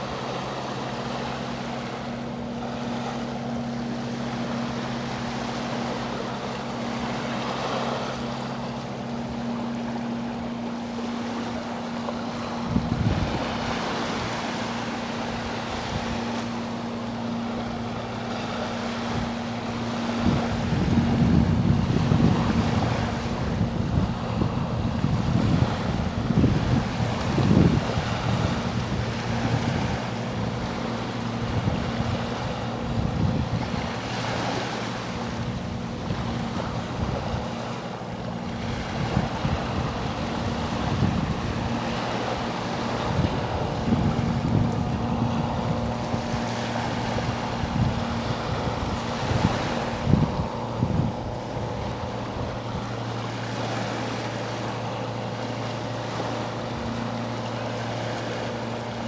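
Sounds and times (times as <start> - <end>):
boat engine humming: 0.0 - 59.0
sea waves washing ashore: 0.0 - 59.0
wind buffeting microphone: 0.0 - 59.0.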